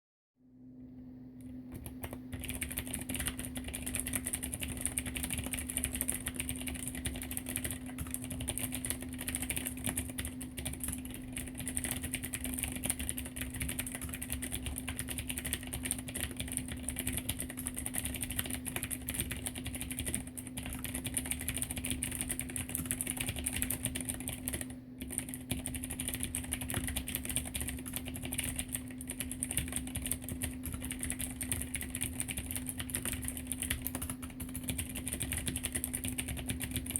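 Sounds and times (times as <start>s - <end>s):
steady low hum: 0.4s - 36.9s
mechanical keyboard typing clicks: 1.4s - 36.9s.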